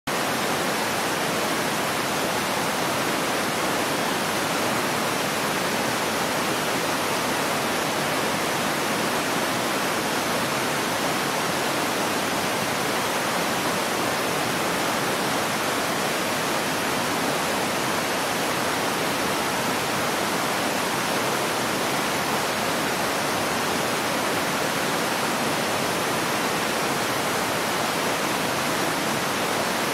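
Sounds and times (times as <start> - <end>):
river water rushing: 0.1 - 29.9.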